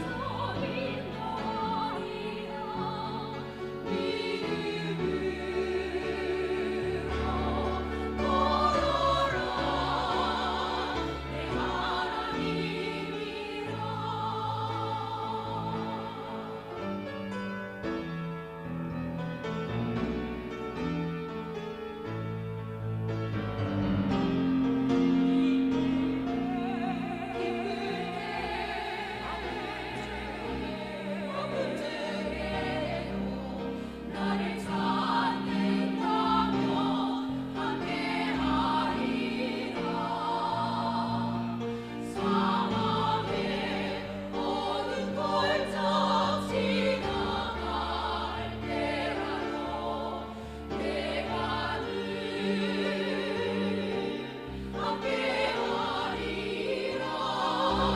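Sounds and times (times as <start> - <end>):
vocal ensemble singing in harmony: 0.0 - 18.2, 23.3 - 57.9.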